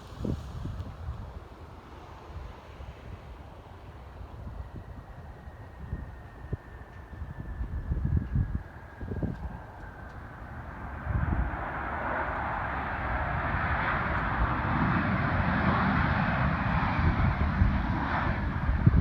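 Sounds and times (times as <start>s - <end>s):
jet engines rushing: 0.0s - 19.0s
wind buffeting microphone: 0.0s - 19.0s.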